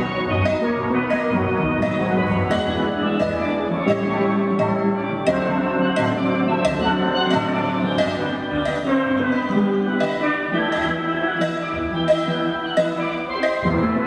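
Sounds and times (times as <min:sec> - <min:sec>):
drum kit beat: 0:00.0 - 0:14.0
steel pans ringing: 0:00.0 - 0:14.0.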